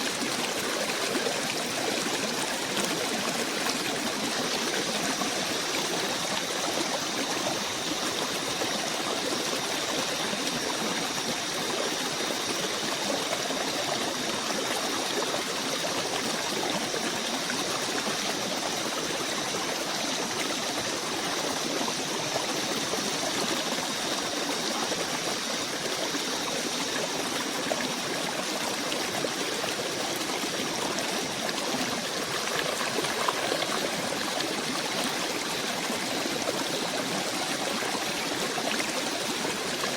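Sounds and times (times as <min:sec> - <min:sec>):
stream rushing and trickling: 0:00.0 - 0:39.9.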